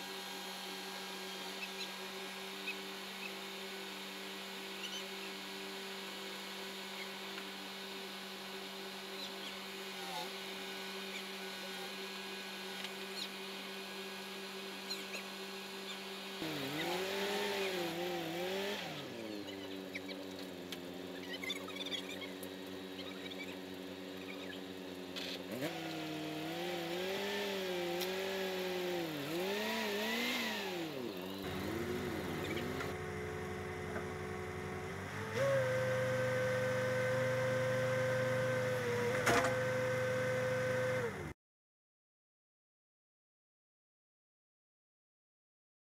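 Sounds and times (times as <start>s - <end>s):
tractor engine idling and revving: 0.0s - 41.3s.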